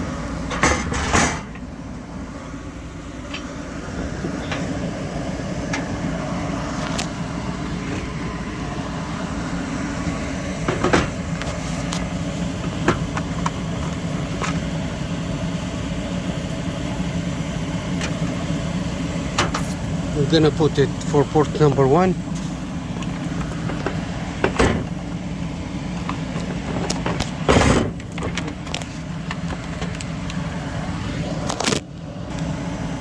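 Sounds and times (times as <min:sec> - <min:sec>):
gas furnace rumbling: 0:00.0 - 0:33.0.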